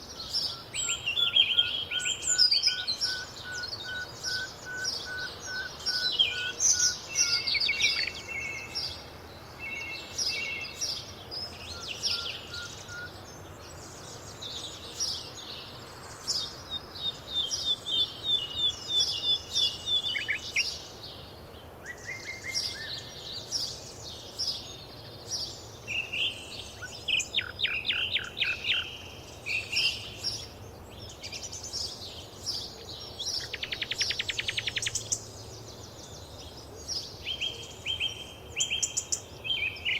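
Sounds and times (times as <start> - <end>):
faint background hiss: 0.0 - 39.9
songbirds singing and chirping: 0.0 - 39.9.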